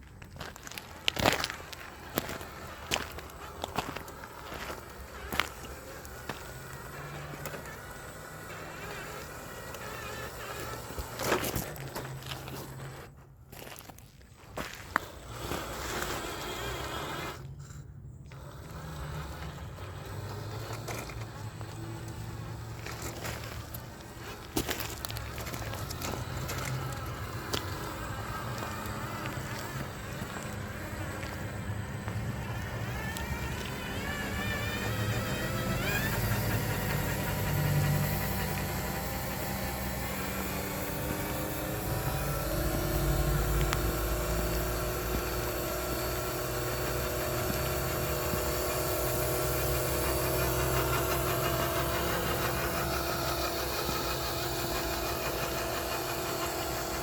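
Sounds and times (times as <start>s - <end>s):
tyres crunching over ground: 0.0s - 57.0s
toy truck electric motor whining: 0.3s - 57.0s.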